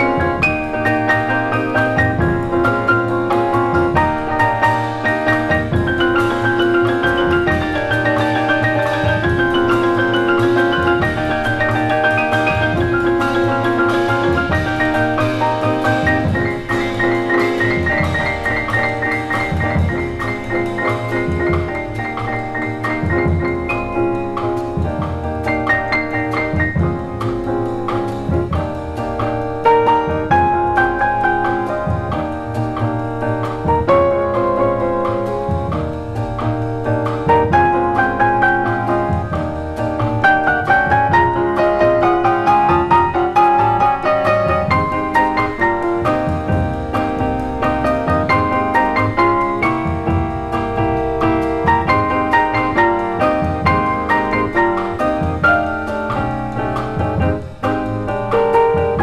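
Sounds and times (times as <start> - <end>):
drums: 0.0 - 59.0
jazz piano trio: 0.0 - 59.0
upright bass: 0.0 - 59.0.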